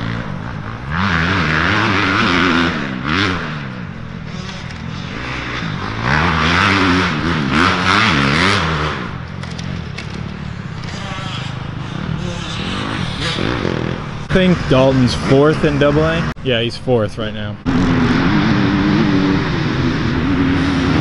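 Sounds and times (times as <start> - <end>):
dirt bike engines revving past: 0.0 - 21.0.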